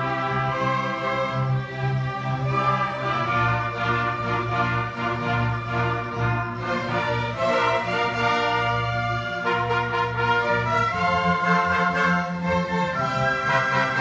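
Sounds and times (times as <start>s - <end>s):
orchestra playing held chords: 0.0s - 14.0s.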